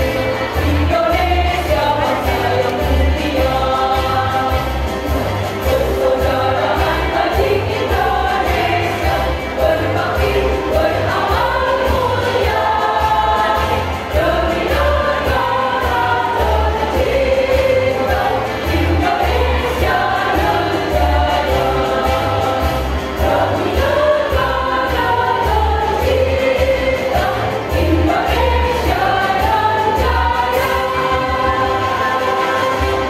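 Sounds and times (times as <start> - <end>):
women's choir singing: 0.0 - 33.0.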